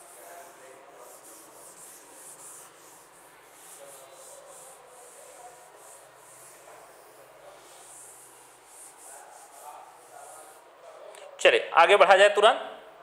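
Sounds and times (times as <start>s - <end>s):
eraser rubbing on glass: 0.0s - 10.7s.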